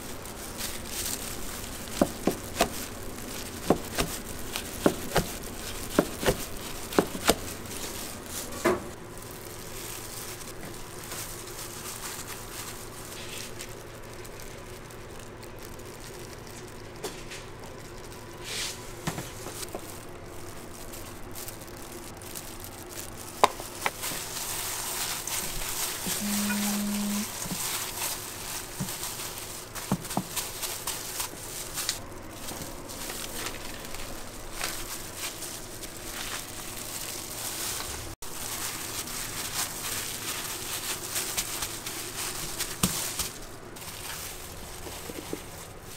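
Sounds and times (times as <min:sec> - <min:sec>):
low kitchen background: 0:00.0 - 0:45.9.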